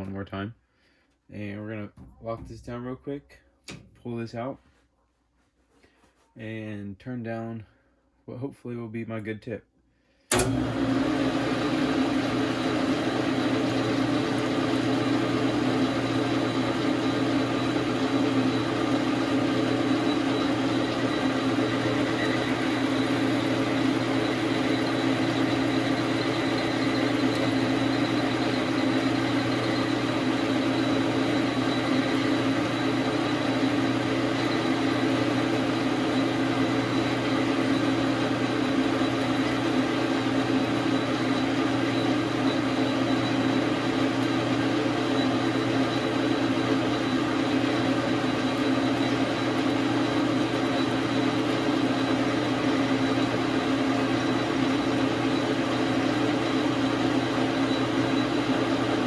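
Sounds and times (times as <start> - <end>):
lathe hum and whir: 10.3 - 59.0.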